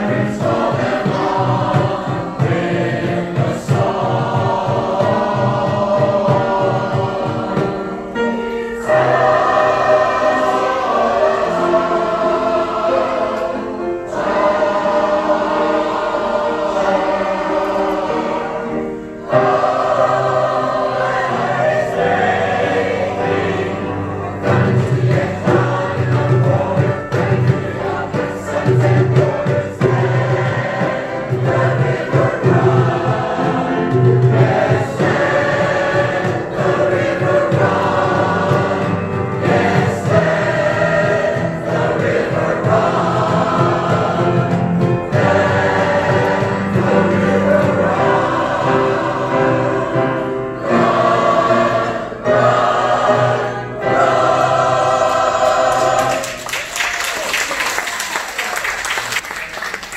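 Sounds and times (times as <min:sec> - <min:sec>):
mixed choir singing: 0:00.0 - 0:59.2
piano accompaniment: 0:00.0 - 0:59.9.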